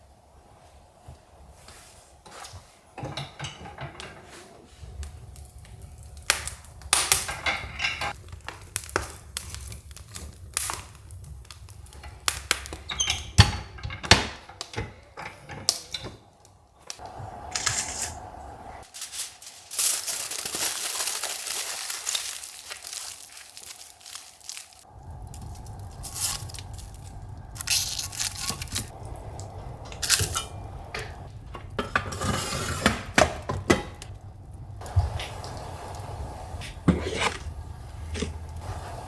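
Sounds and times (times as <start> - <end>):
crinkling and rustling: 1.6 - 39.0.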